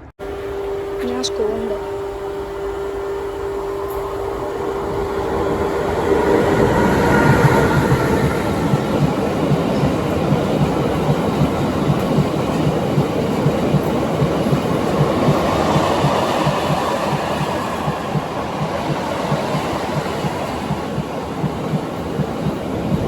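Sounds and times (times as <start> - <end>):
train wheels clattering on rails: 3.6 - 23.0.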